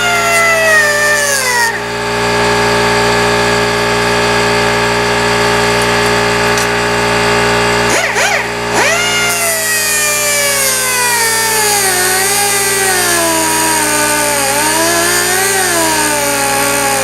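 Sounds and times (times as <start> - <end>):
air die grinder cutting metal: 0.0 - 17.0.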